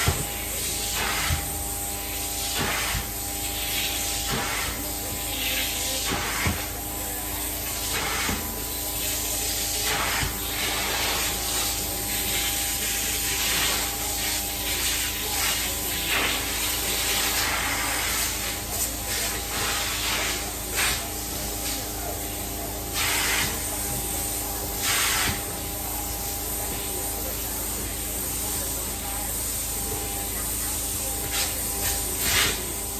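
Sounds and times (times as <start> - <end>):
carpet cleaner hissing: 0.0 - 32.9.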